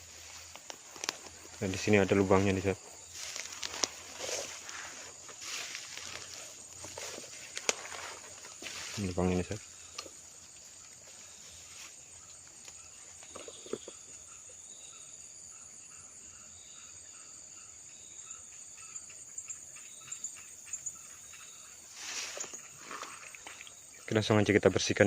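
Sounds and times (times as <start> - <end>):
insect chirping call: 0.0 - 25.0.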